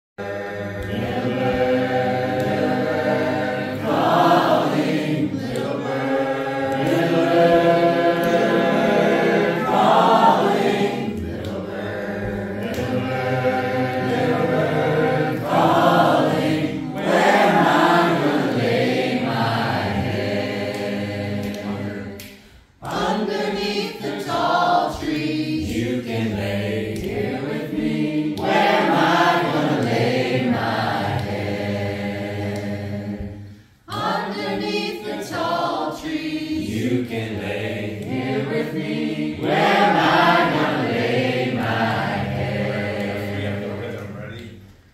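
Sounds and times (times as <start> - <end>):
group singing a cappella: 0.2 - 44.9.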